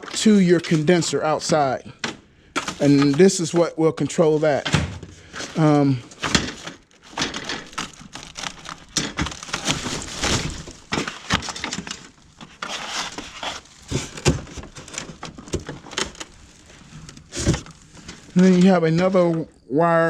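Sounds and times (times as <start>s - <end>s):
packaging crackling and rustling: 0.0s - 19.4s.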